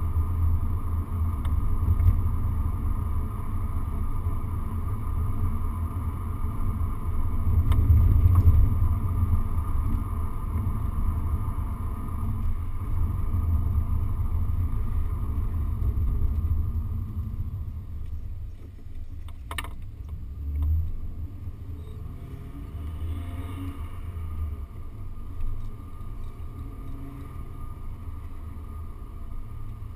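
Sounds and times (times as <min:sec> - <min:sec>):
car engine and road rumble: 0:00.0 - 0:29.9.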